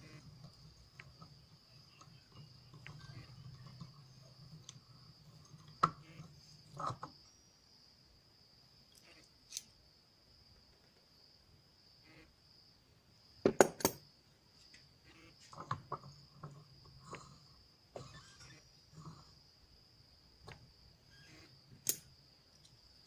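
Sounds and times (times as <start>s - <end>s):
crickets droning: 0.0s - 23.0s.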